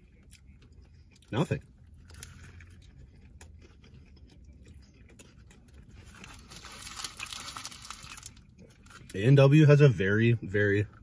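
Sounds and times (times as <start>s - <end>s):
person chewing: 0.0s - 9.1s.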